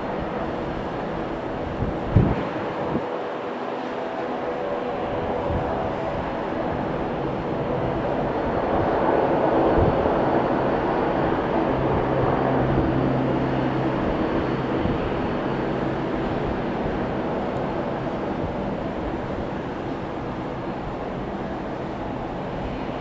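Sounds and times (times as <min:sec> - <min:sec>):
jet airliner engines passing: 0:00.0 - 0:23.0.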